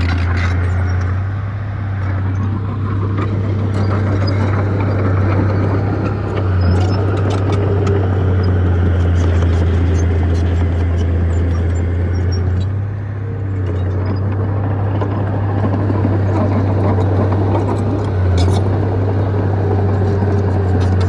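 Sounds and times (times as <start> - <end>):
diesel engine droning under load: 0.0 - 21.0.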